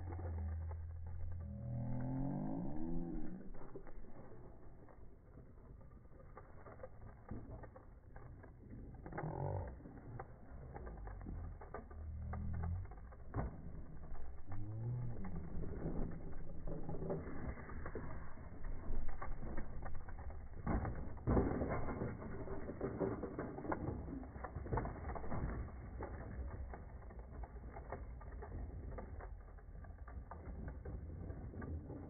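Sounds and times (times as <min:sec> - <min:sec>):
bicycle clatter: 0:00.0 - 0:32.0
bicycle rattling on concrete: 0:00.0 - 0:32.0.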